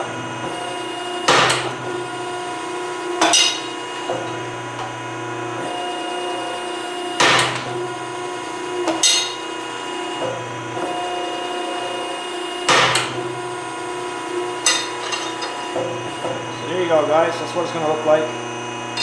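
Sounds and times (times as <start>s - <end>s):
hydraulic machine humming: 0.0s - 19.0s.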